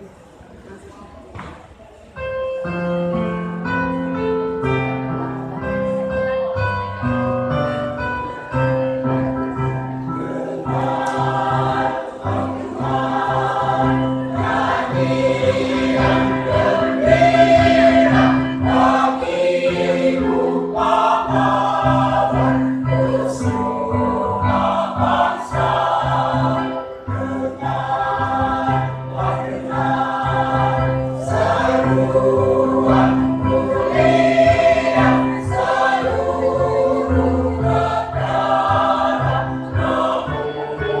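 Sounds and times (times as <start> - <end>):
choir singing in harmony: 3.2 - 41.0.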